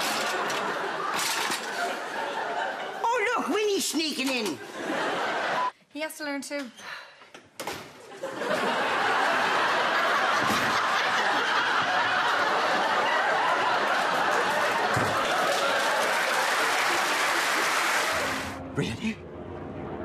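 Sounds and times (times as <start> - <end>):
audience laughing loudly: 0.0 - 5.7, 8.1 - 18.5.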